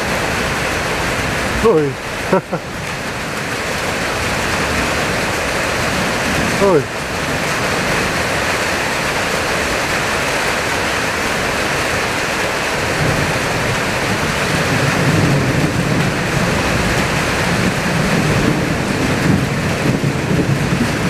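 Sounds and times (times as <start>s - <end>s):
heavy rain and wind hiss: 0.0s - 21.0s.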